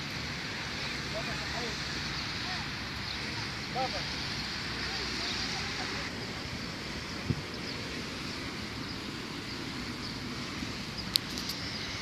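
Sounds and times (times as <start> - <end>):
open air hiss: 0.0 - 12.0
wind buffeting microphone: 0.0 - 12.0.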